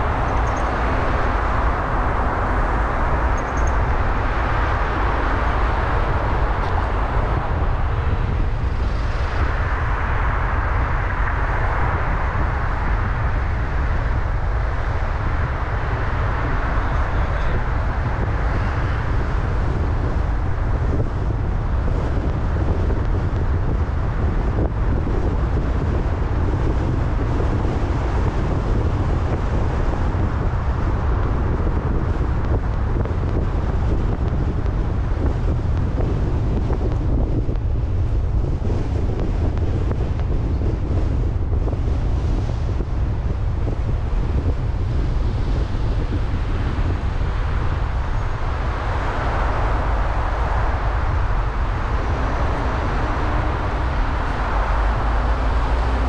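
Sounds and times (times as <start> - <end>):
car road noise rumble: 0.0 - 56.0
wind on microphone: 0.0 - 56.0.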